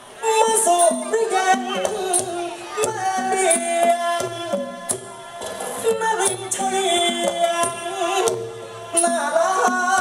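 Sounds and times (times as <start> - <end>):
drum and percussion strokes: 0.0 - 10.0
person singing into microphone: 0.0 - 10.0
traditional ensemble held notes: 0.0 - 10.0.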